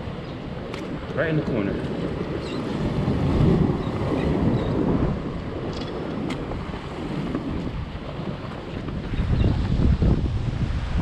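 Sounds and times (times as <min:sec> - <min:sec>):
surf washing against rocks: 0:00.0 - 0:11.0
wind buffeting microphone: 0:00.0 - 0:11.0.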